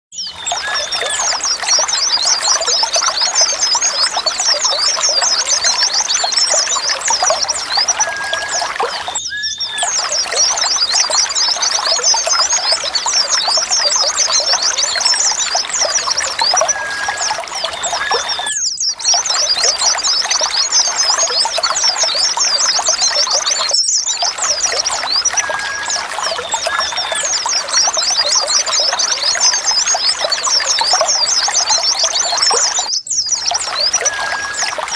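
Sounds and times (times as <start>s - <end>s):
birds twittering: 0.2s - 34.9s
running water: 0.2s - 34.9s.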